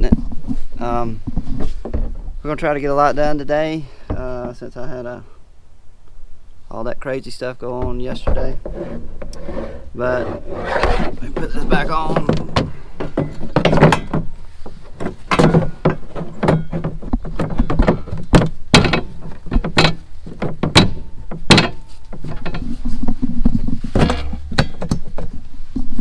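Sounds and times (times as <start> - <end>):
knocks and clunks: 0.0 - 5.5, 6.1 - 26.0.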